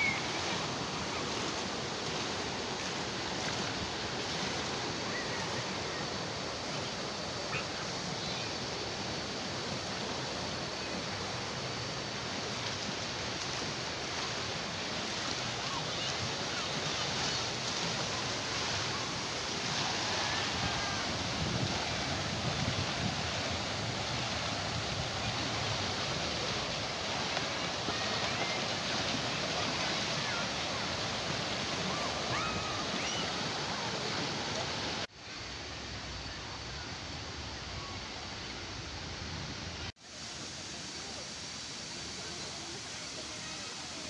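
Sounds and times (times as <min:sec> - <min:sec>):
water rushing down rapids: 0:00.0 - 0:44.0.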